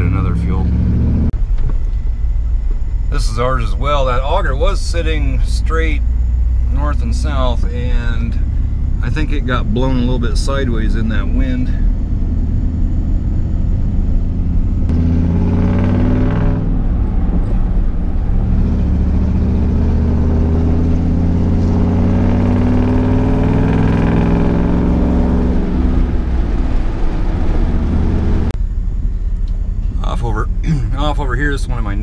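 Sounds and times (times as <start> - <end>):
truck engine revving: 0.0 - 1.4, 3.1 - 28.6
road noise: 0.0 - 32.0.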